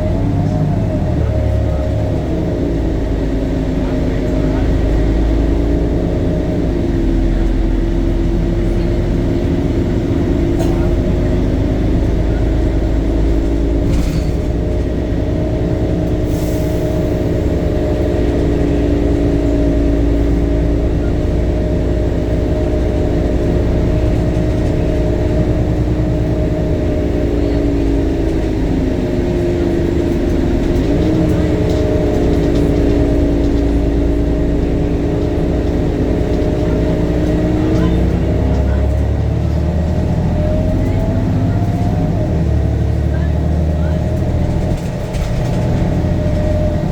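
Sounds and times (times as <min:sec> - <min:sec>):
bus engine drone with whine: 0:00.0 - 0:46.9.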